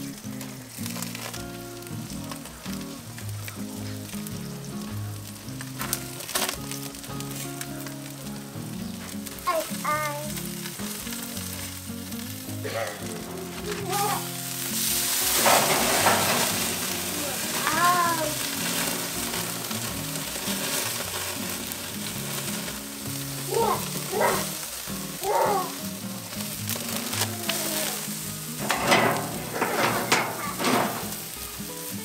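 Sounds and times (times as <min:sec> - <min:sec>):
fish sizzling on a grill: 0:00.0 - 0:32.0.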